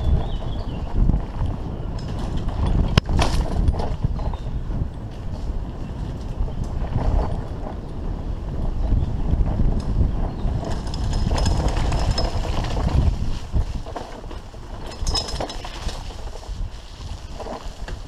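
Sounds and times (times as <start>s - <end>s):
bicycle rattling over rough trail: 0.0s - 18.0s.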